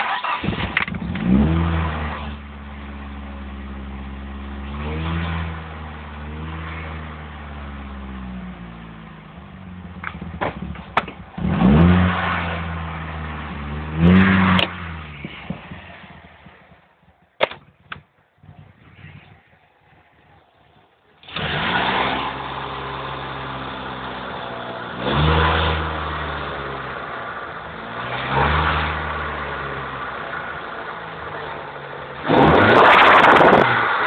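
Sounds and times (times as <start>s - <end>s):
car engine revving and idling: 0.0s - 17.2s, 18.4s - 34.0s.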